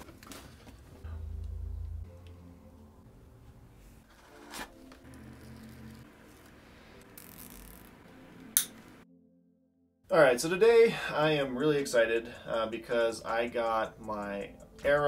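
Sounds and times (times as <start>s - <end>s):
faint background music: 0.0s - 9.1s, 10.0s - 15.0s.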